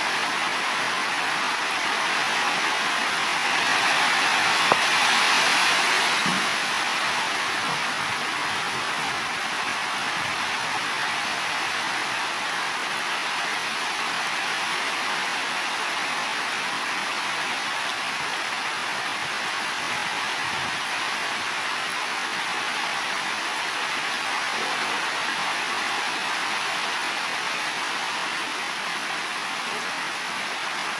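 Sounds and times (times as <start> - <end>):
heavy rain on roofs: 0.0 - 30.9.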